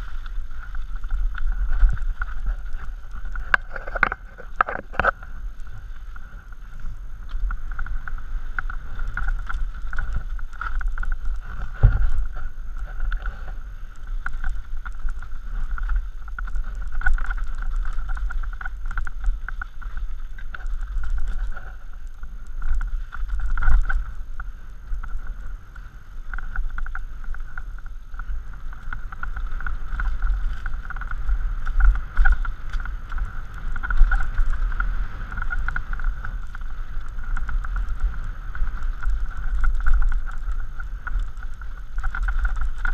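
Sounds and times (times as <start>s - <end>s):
bike rattling: 0.0s - 42.9s
tyres crunching over dirt and stones: 0.0s - 42.9s
wheels knocking on rocks: 0.0s - 42.9s
wind buffeting microphone: 0.0s - 42.9s.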